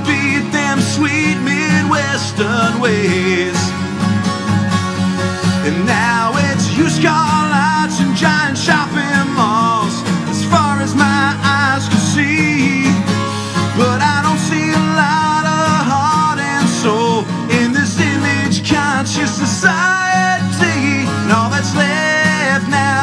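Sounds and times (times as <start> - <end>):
man singing: 0.0 - 4.0, 5.5 - 23.0
strummed acoustic guitar: 0.0 - 23.0.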